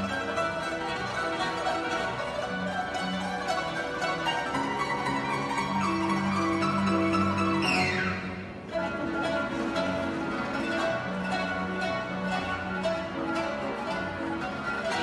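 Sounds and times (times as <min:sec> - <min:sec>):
plucked zither melody: 0:00.0 - 0:15.0.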